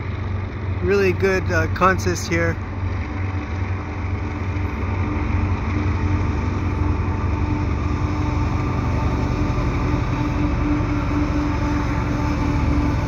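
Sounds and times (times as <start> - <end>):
diesel locomotive rumble: 0.0 - 13.0
steady droning tone: 0.0 - 13.0.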